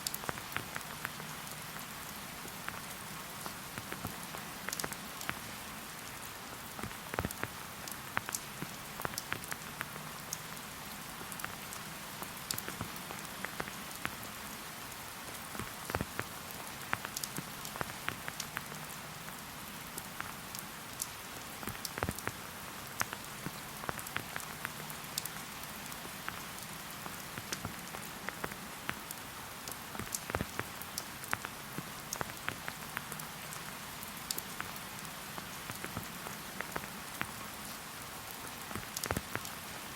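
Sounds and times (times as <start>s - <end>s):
raindrops ticking: 0.0s - 39.7s
rain hiss: 0.0s - 39.9s.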